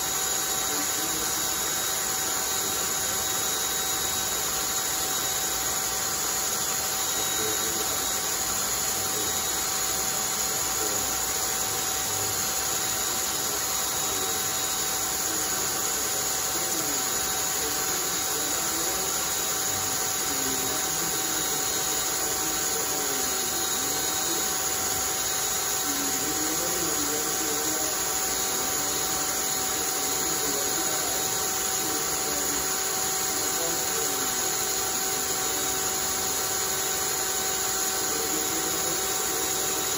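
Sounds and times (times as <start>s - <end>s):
cordless drill motor running: 0.0s - 39.9s.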